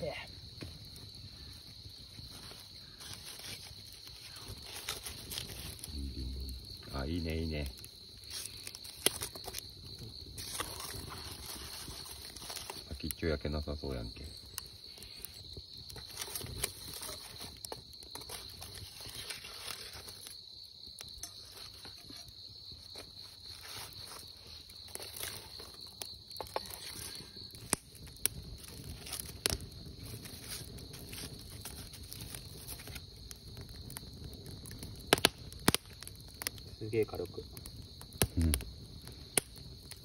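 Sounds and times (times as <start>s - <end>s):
insects chirring: 0.0s - 40.0s
wood fire crackling and popping: 0.0s - 40.0s.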